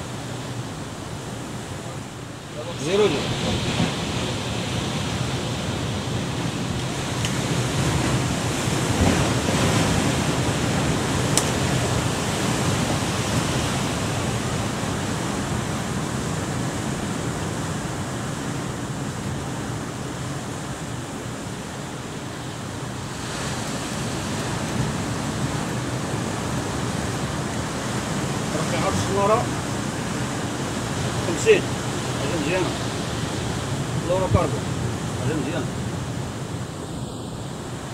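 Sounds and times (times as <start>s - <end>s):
surf washing over rocks: 0.0s - 37.9s.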